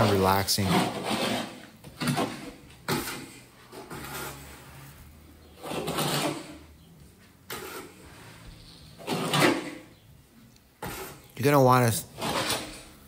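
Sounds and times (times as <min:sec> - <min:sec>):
trowel scraping cement: 0:00.0 - 0:06.7, 0:07.5 - 0:09.9, 0:10.8 - 0:13.0.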